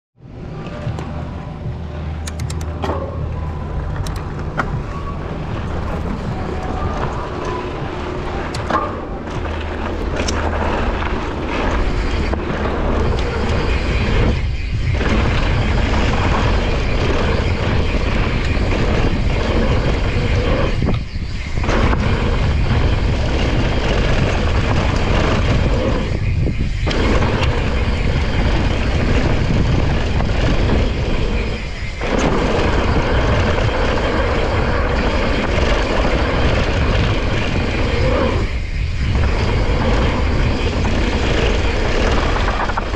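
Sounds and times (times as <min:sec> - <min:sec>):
bike tyres rolling and rattling: 0:00.2 - 0:42.9
wind rushing over microphone: 0:00.2 - 0:42.9.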